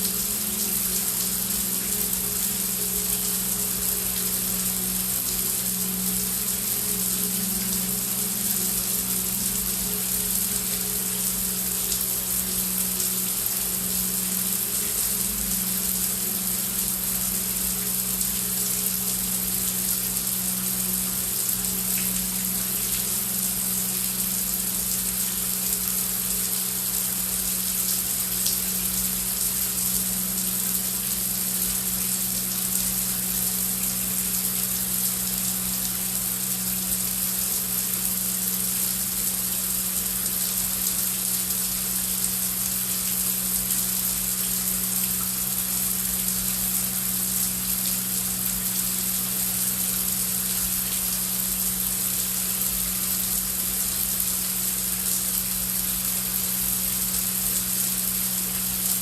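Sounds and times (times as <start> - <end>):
low steady drone: 0.0 - 59.0.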